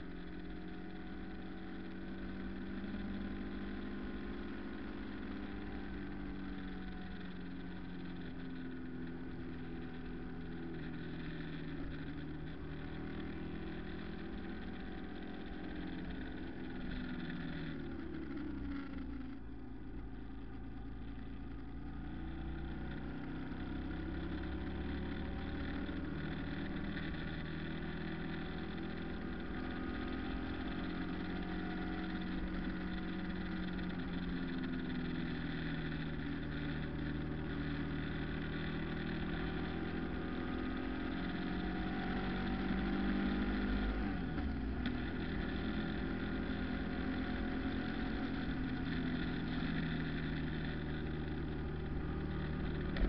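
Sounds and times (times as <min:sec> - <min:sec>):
vehicle engine driving: 0:00.0 - 0:53.0.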